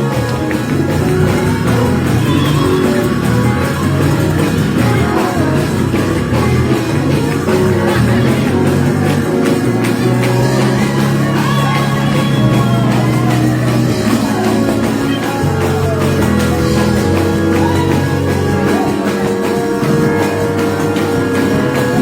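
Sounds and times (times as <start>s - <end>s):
bass: 0.0s - 22.0s
guitar: 0.0s - 22.0s
person singing: 0.0s - 22.0s.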